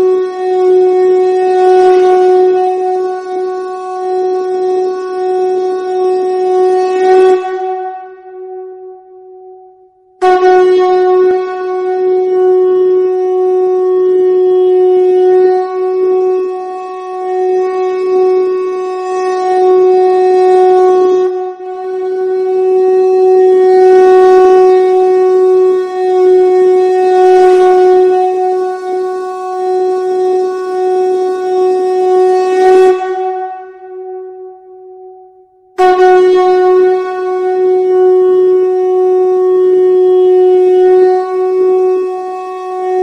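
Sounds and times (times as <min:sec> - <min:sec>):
conch shell trumpet blown: 0:00.0 - 0:43.0.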